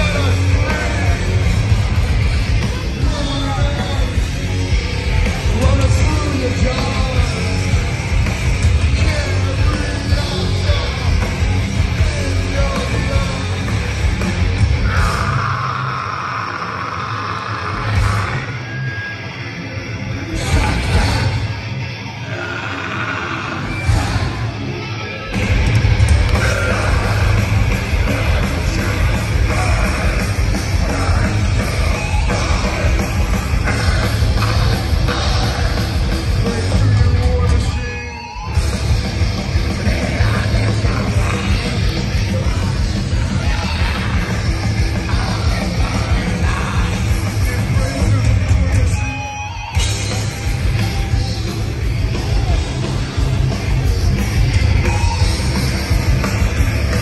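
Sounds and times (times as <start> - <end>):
bass guitar: 0.0 - 57.0
drums: 0.0 - 57.0
heavy distorted electric guitars: 0.0 - 57.0
metal band playing live: 0.0 - 57.0.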